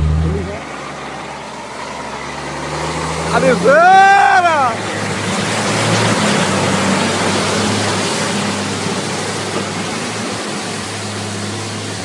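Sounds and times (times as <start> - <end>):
truck diesel engine under load: 0.0 - 12.0.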